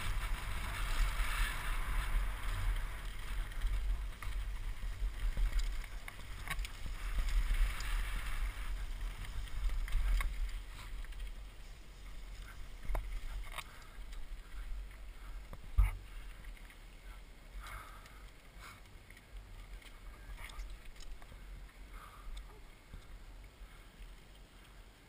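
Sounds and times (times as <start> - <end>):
bike clicks and rattles: 0.0 - 24.8
bike tyres rolling on gravel: 0.0 - 25.0.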